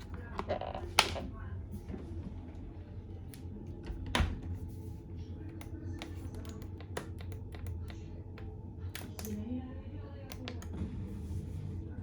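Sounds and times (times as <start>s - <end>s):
dishwasher humming: 0.0s - 12.0s.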